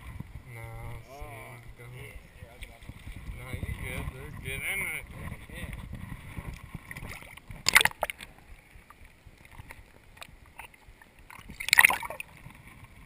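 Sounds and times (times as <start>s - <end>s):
water splashing: 0.0s - 13.0s
muffled underwater ticks and knocks: 2.5s - 13.0s.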